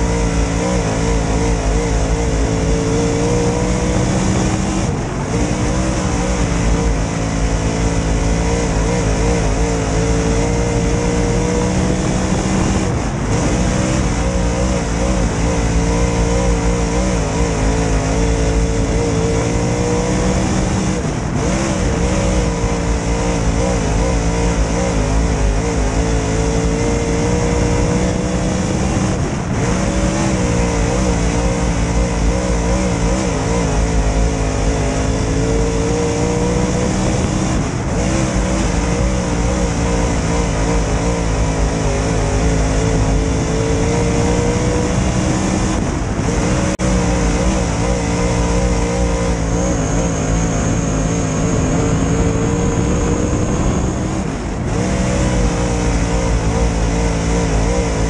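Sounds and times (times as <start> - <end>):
race car engine running hard: 0.0 - 58.0
wind and track noise: 0.0 - 58.0.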